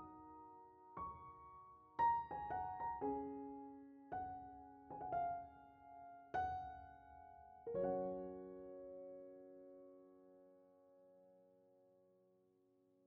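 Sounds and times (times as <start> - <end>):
slow piano melody: 0.0 - 11.4.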